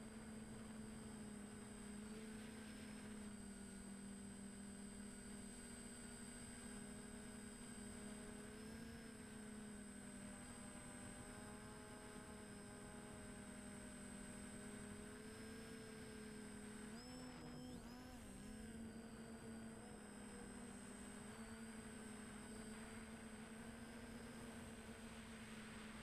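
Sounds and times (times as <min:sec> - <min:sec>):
quadcopter motors humming: 0:00.0 - 0:26.0.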